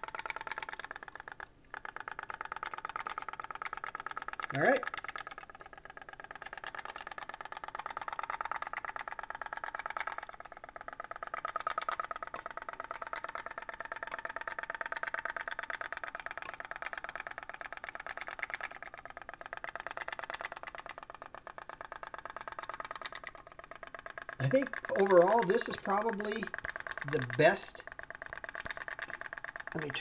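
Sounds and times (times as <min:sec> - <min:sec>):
toy boat putt-putting: 0:00.0 - 0:30.0.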